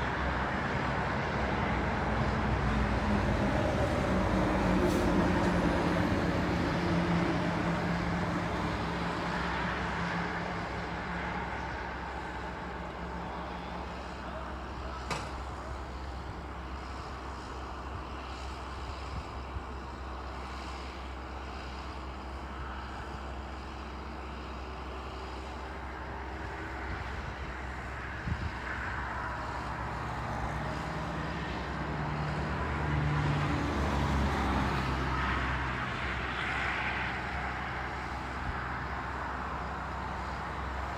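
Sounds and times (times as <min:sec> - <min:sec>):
vehicle engine rumbling: 0:00.0 - 0:40.9.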